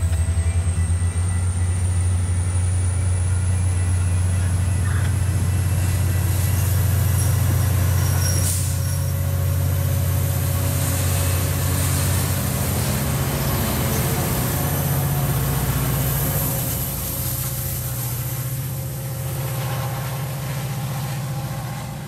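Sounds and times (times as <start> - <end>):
diesel locomotive engine hum: 0.0 - 22.0
train wheels rumbling on rail: 0.0 - 22.0.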